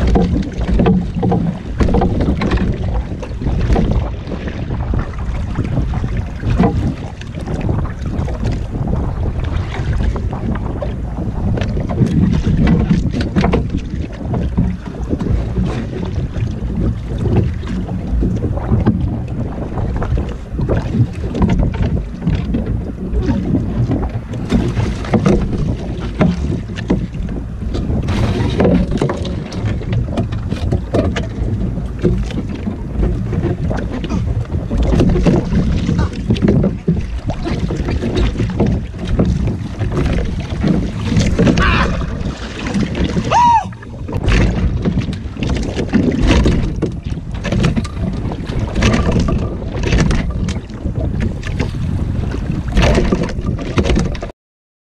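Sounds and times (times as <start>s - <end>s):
water sloshing against hull: 0.0s - 54.3s
wind buffeting microphone: 0.0s - 54.3s.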